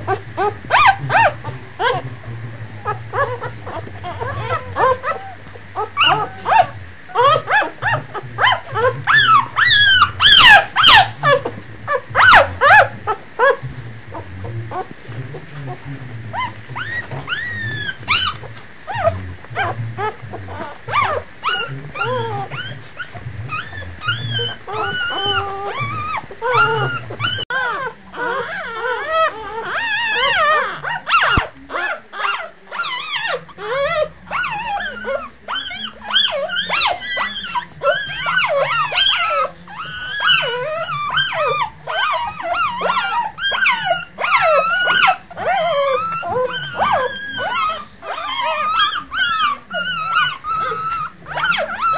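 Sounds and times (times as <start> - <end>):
puppies squeaking and whimpering: 0.0 - 51.9.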